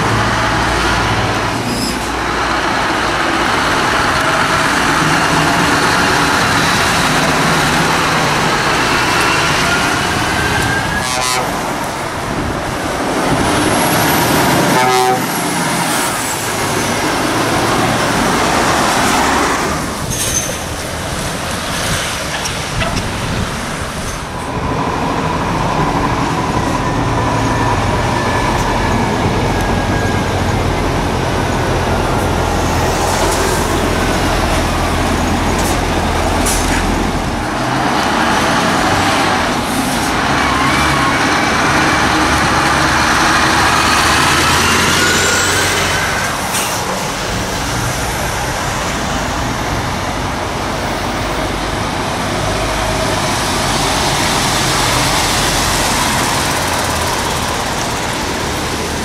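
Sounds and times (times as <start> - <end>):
lorries driving past: 0.0 - 59.0
tyres humming on road: 0.0 - 59.0.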